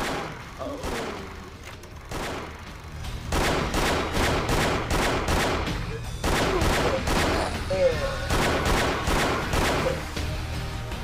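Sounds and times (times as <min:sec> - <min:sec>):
pistol gunshots: 0:00.0 - 0:10.2.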